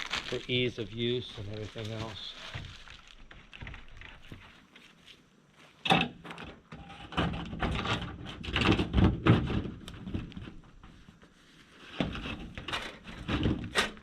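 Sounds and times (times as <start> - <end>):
plastic sheet clattering and scraping: 0.0 - 4.8, 5.9 - 14.0.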